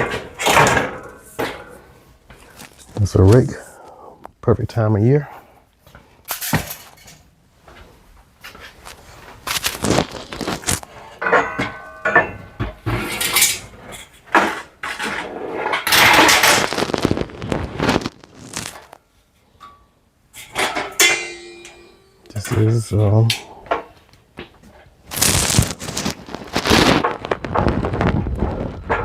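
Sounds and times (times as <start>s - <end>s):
household items clattering and knocking: 0.0s - 3.1s, 5.9s - 7.3s, 8.5s - 18.9s, 20.4s - 29.0s.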